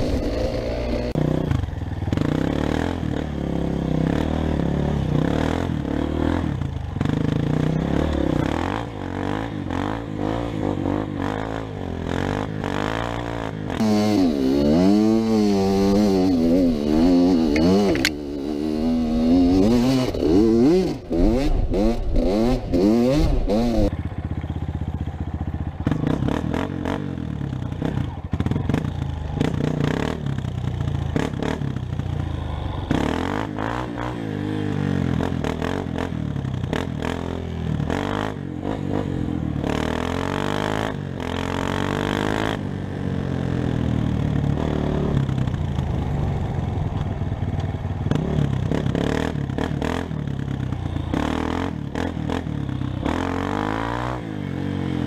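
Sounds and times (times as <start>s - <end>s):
four-stroke dirt bike running: 0.0s - 55.0s
two-stroke dirt bike revving: 0.0s - 55.0s.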